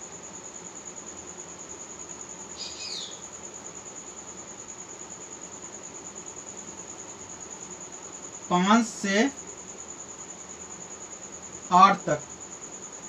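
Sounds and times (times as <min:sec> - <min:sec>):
cricket trilling: 0:00.0 - 0:13.0
faint room hiss: 0:00.0 - 0:13.0.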